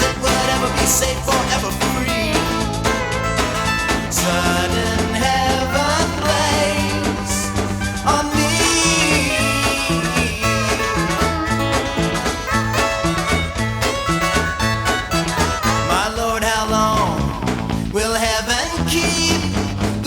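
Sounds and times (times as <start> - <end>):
band music with steady beat: 0.0 - 20.0.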